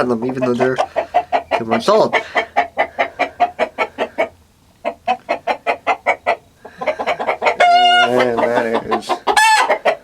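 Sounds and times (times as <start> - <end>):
chicken clucking: 0.0 - 10.0.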